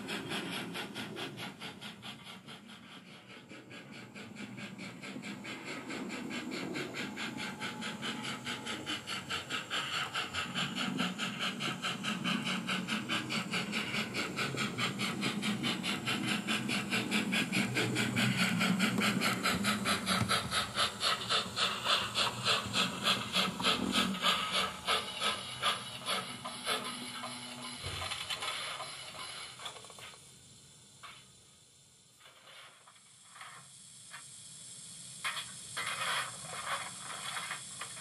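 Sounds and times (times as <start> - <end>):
model steam locomotive chuffs: 0.0 - 38.0.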